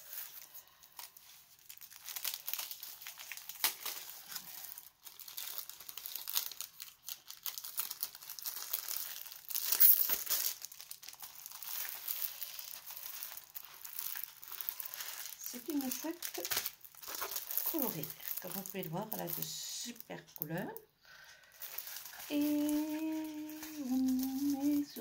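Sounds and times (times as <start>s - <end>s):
plastic wrapping crinkling: 0.0s - 25.0s.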